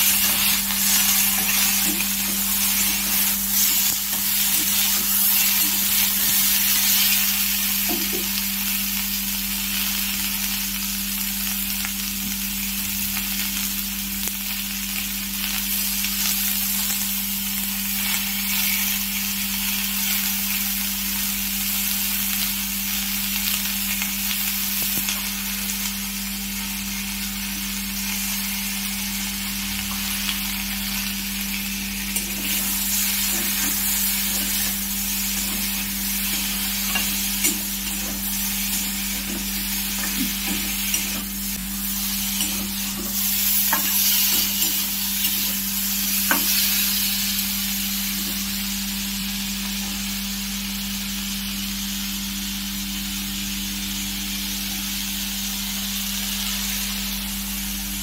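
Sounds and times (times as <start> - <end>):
vegetables sizzling in oil: 0.0 - 58.0.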